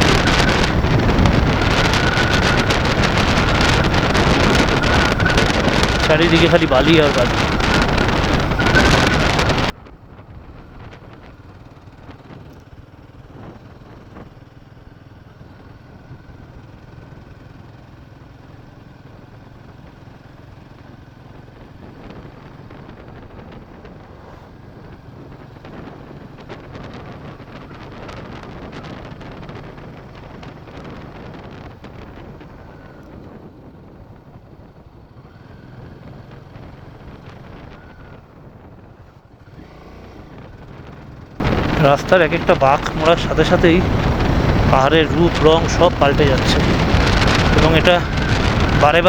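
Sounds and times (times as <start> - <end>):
wind noise on microphone: 0.0 - 16.9, 20.8 - 49.0
motorcycle engine: 0.0 - 49.0.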